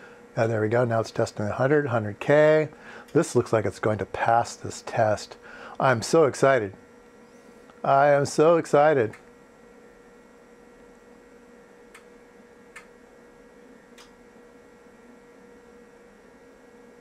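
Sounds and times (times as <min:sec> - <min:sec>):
faint mains hum: 0:00.0 - 0:17.0
steady whine: 0:00.0 - 0:17.0.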